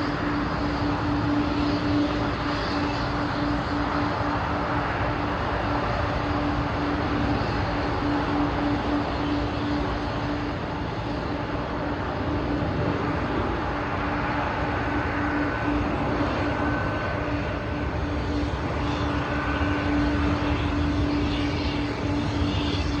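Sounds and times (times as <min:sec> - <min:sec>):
constant low hum: 0:00.0 - 0:23.0
jet engines roaring: 0:00.0 - 0:23.0.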